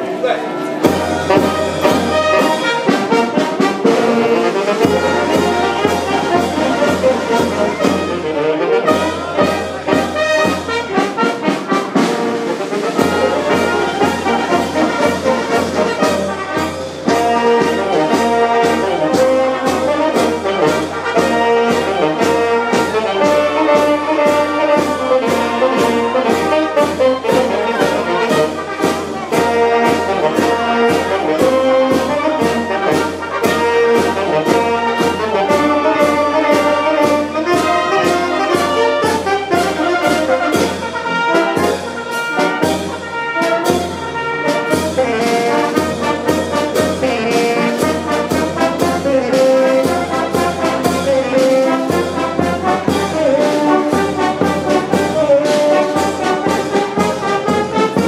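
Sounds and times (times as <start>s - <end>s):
brass band playing a march: 0.0s - 58.0s.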